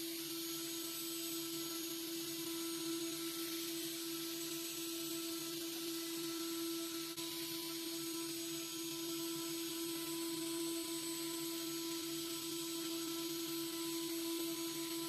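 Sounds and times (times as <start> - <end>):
milling machine spindle whine: 0.0 - 15.0.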